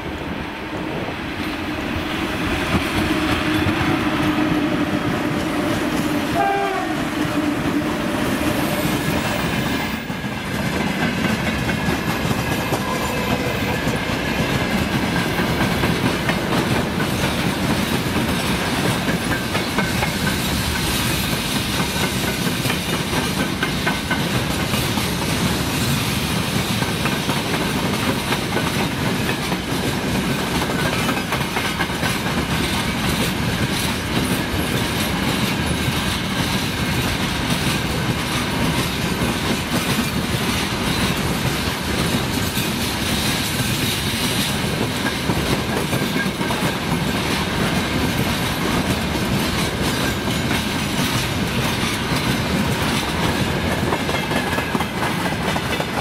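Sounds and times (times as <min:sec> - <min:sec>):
electric locomotive whine: 0:00.0 - 0:56.0
freight train wheels clattering: 0:00.0 - 0:56.0.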